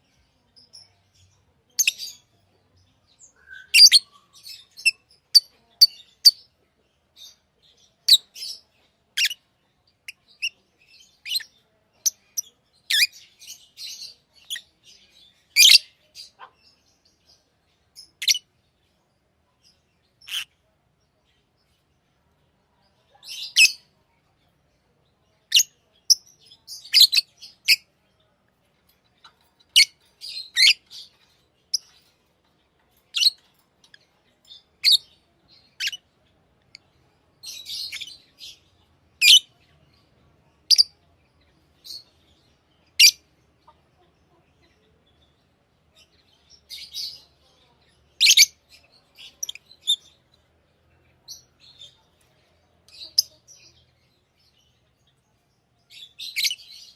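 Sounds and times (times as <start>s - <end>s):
lovebirds chirping: 0.0s - 56.9s.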